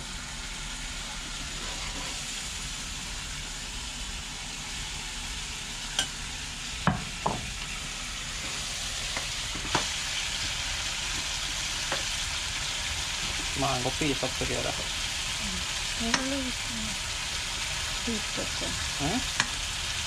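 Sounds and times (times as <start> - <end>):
curry sizzling in a pot: 0.0 - 20.0.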